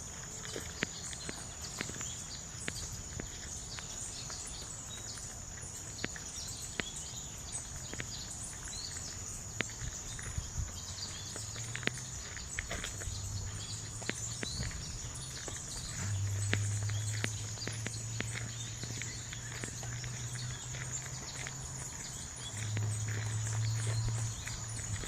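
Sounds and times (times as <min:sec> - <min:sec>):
light footsteps: 0:00.0 - 0:25.0.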